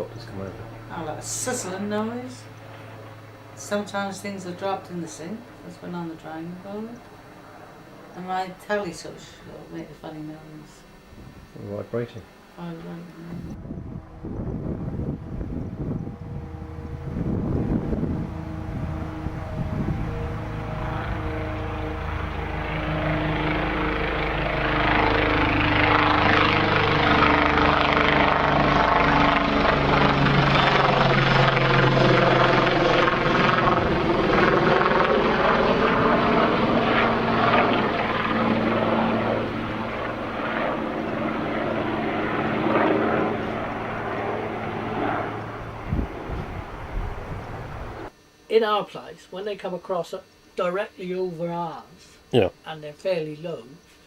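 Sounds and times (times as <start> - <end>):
helicopter flying overhead: 0.0 - 48.2.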